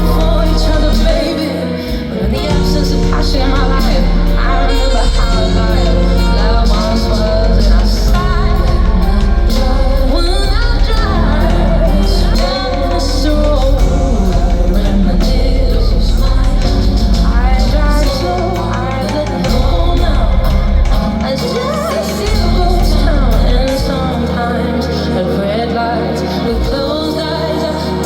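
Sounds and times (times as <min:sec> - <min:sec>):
live band with heavy bass: 0:00.0 - 0:28.0
woman singing: 0:00.0 - 0:28.0.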